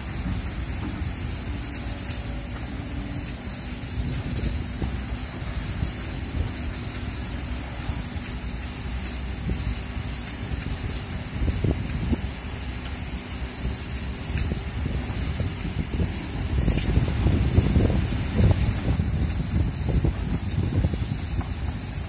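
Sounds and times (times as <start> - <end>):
excavator diesel engine: 0.0 - 22.0
wind buffeting microphone: 0.0 - 22.0.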